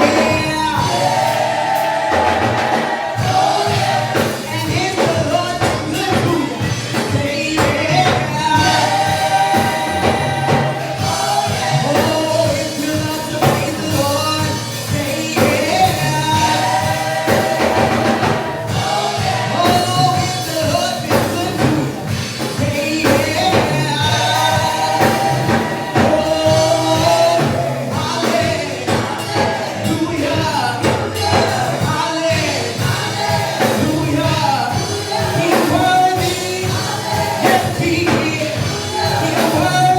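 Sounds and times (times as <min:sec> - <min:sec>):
band with bass and drums: 0:00.0 - 0:39.9
choir singing gospel: 0:00.0 - 0:39.9.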